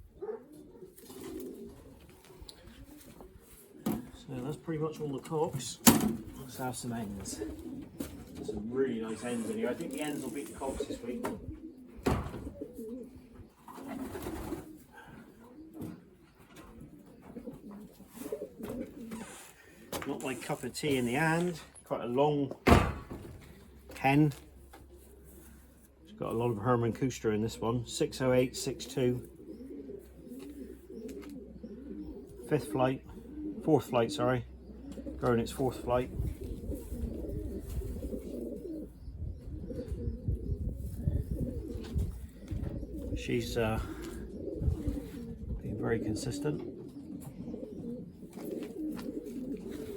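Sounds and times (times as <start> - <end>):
pigeons cooing: 0.0 - 49.9.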